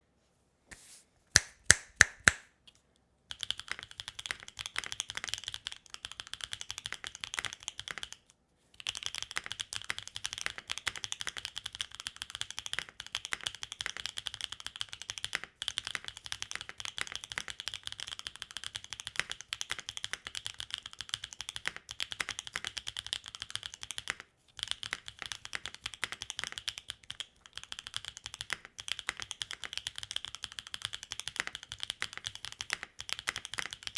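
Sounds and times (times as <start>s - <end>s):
mechanical keyboard typing: 3.3s - 8.2s, 8.8s - 33.9s.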